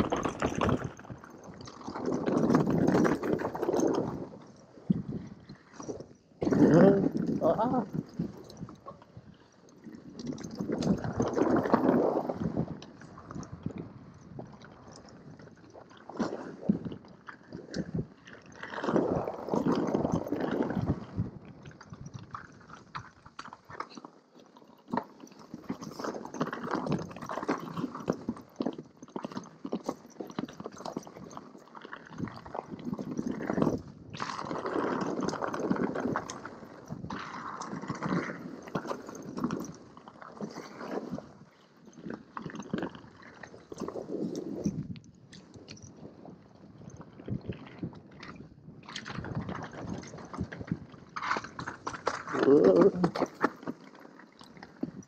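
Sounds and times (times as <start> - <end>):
bike tyres crunching over trail: 0.0 - 55.0.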